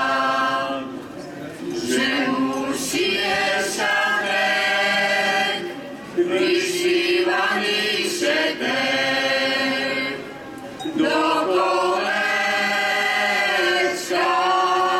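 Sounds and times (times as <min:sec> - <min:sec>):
folk ensemble singing: 0:00.0 - 0:14.9.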